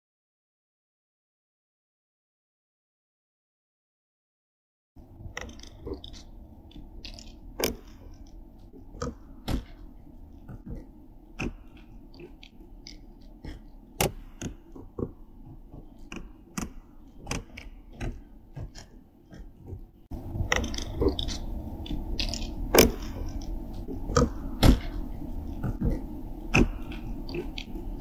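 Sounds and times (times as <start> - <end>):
sharp irregular clicks: 5.0 - 28.0.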